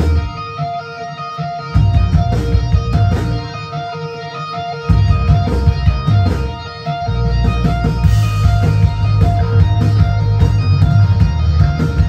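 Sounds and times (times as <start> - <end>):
bass guitar: 0.0 - 12.0
drums: 0.0 - 12.0
electric guitar melody: 0.0 - 12.0.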